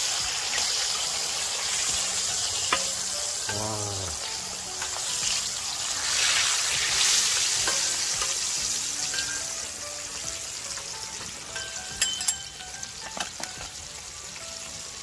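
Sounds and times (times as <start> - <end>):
fish deep-frying in oil: 0.0 - 15.0.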